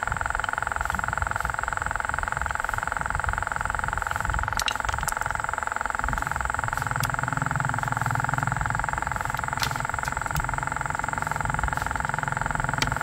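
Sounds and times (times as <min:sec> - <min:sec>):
mechanical hum with a whine: 0:00.0 - 0:13.0.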